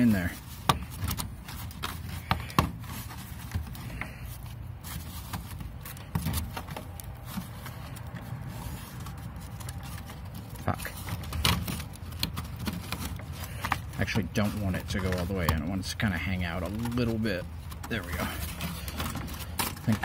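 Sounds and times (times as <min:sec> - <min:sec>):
wire mesh scraping plastic pipe: 0:00.0 - 0:20.0.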